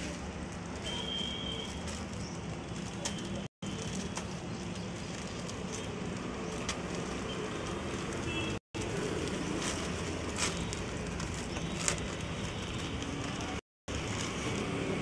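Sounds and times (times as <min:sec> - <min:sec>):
plastic bag crinkling: 0:00.0 - 0:15.0
street traffic noise: 0:00.0 - 0:15.0.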